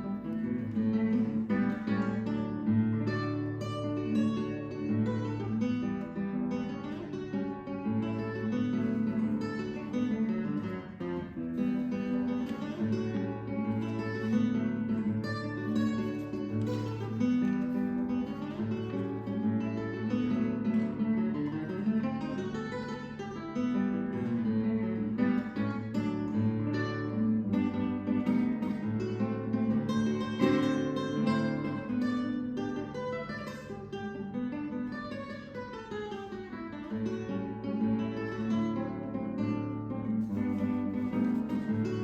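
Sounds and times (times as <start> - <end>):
acoustic guitar picking and strumming: 0.0 - 42.0.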